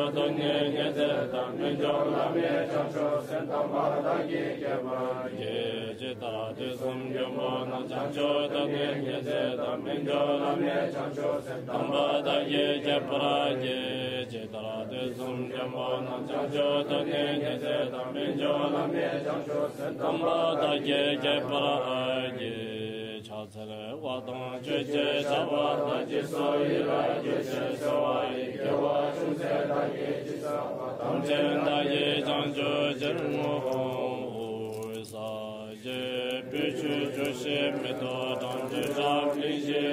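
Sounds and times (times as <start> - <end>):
person chanting prayers: 0.0 - 39.9.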